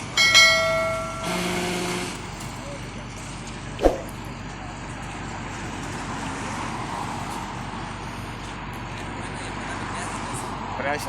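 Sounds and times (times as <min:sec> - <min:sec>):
large vehicle engine running: 0:00.0 - 0:11.0.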